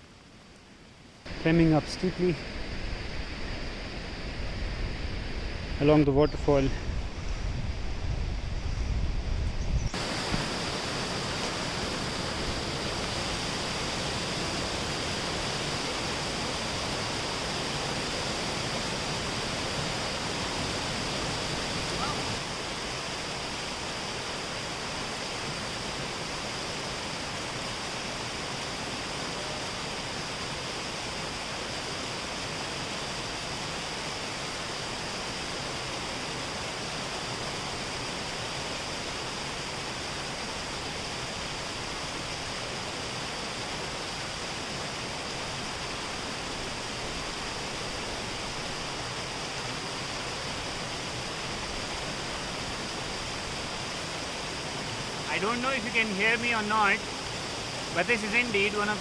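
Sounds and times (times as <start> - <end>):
waterfall rushing: 1.3 - 6.1, 10.0 - 59.0.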